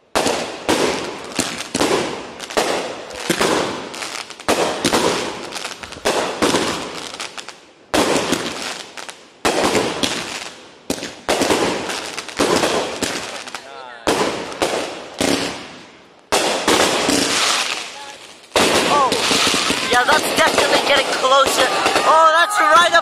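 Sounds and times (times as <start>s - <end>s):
firework bangs: 0.0s - 23.0s.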